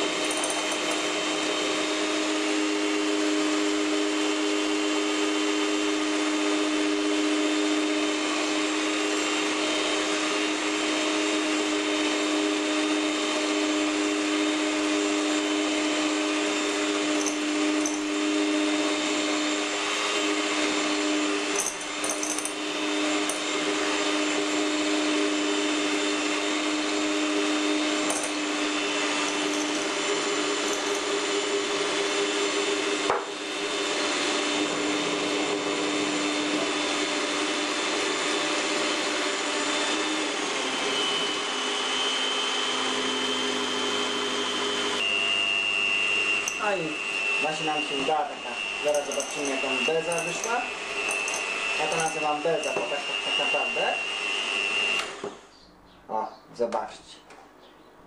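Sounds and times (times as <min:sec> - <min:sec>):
electric hand mixer whisking: 0:00.0 - 0:55.5.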